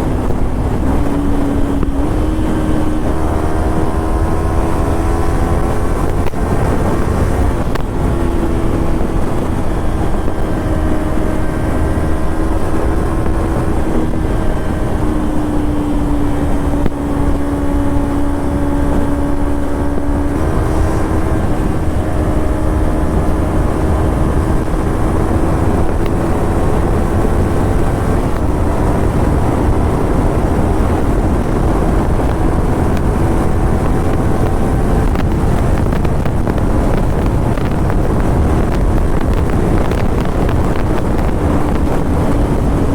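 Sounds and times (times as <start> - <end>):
motorcycle engine and exhaust: 0.0 - 42.9
wind and road noise: 0.0 - 42.9.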